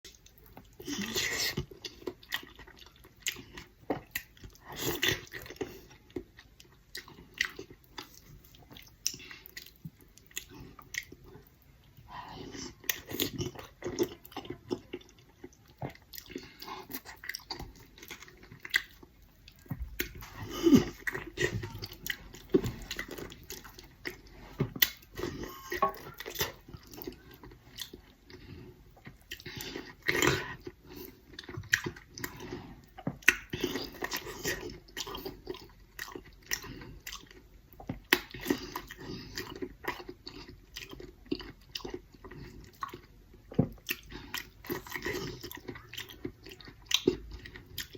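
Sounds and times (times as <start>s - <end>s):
person chewing: 0.1s - 47.9s.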